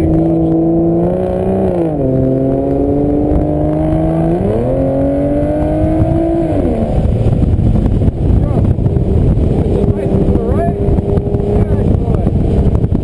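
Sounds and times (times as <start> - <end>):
car engine roaring: 0.0 - 13.0.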